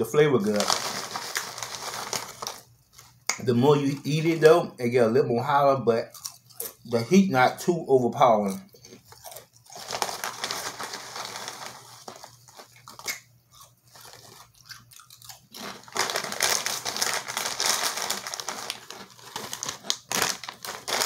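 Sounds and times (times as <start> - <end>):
potato chips crunching: 0.4 - 4.4, 6.1 - 7.0, 8.4 - 21.0.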